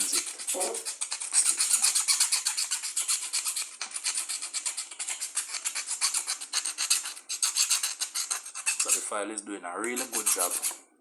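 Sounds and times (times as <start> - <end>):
metal file rasping: 0.0 - 9.2, 9.8 - 10.8.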